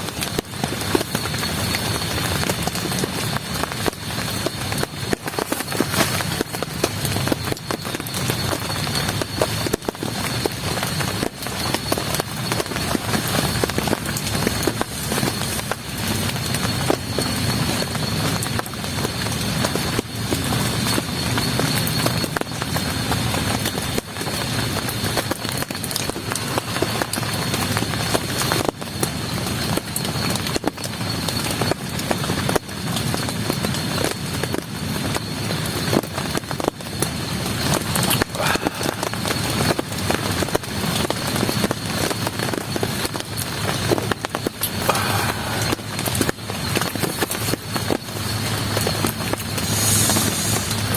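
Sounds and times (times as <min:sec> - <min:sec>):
heavy rain falling: 0:00.0 - 0:50.9
raindrops ticking on surface: 0:00.0 - 0:50.9.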